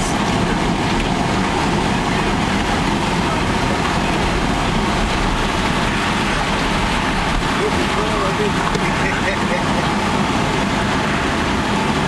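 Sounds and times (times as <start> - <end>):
vehicle engine and tyres: 0.0 - 12.0.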